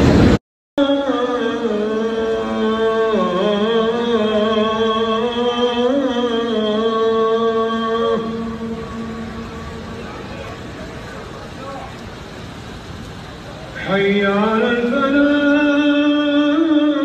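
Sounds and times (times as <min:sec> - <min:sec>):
person chanting religious recitation: 0:00.8 - 0:12.0, 0:13.5 - 0:17.0.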